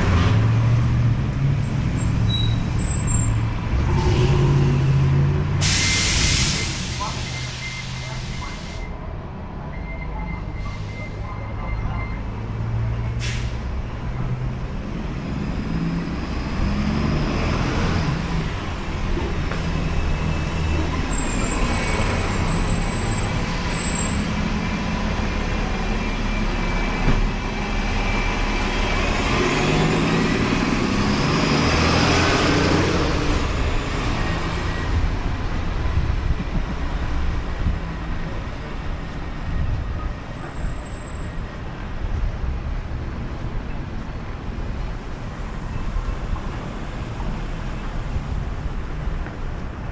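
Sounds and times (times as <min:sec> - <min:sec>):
heavy vehicles passing: 0:00.0 - 0:49.9.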